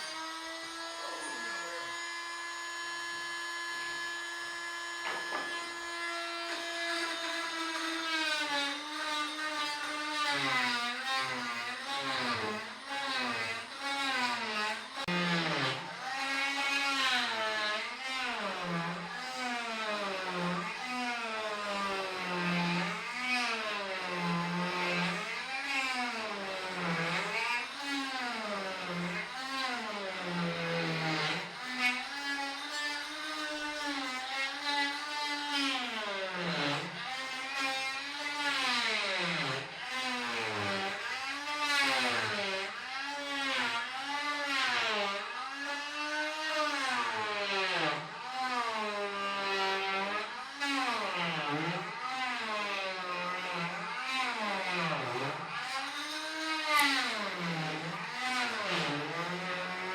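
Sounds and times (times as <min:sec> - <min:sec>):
oscillating multi-tool cutting: 0:00.0 - 0:59.9.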